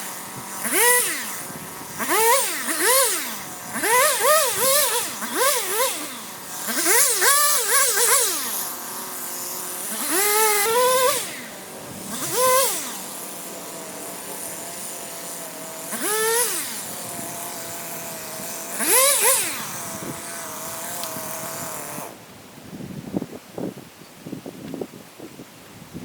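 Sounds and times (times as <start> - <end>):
chainsaw idling and revving: 0.0 - 22.3.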